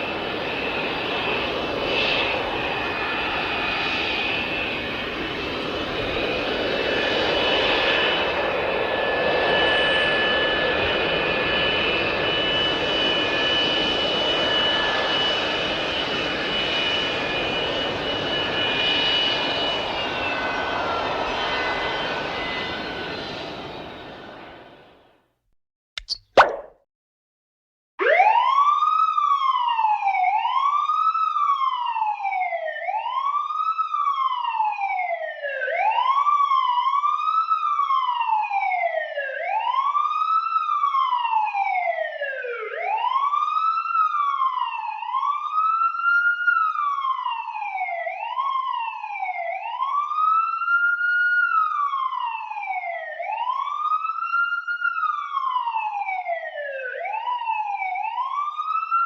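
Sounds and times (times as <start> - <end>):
wailing siren: 0.0 - 24.9, 28.0 - 59.0.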